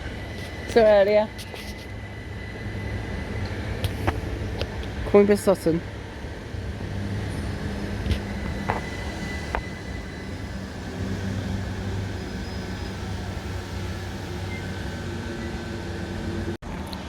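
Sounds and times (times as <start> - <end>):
electric train low hum: 0.0 - 17.0.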